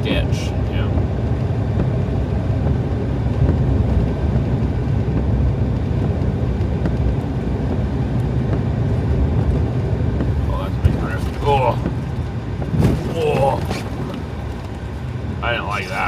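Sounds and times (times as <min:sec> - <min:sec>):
truck driving through snow: 0:00.0 - 0:16.0.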